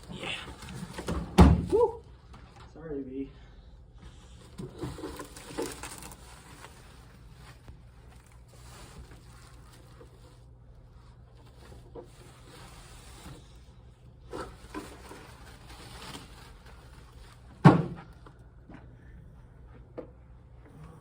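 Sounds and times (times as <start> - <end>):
rustling and handling noises: 0.0 - 2.9, 3.9 - 18.9
low electrical hum: 0.0 - 21.0.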